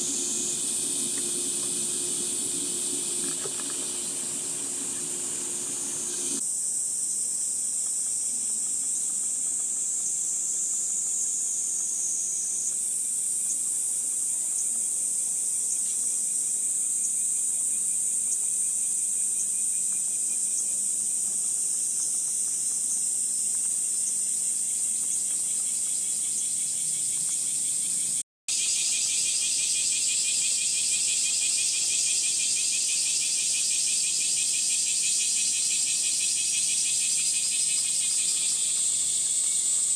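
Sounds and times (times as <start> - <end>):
cicadas singing: 0.0 - 6.5, 7.8 - 39.9.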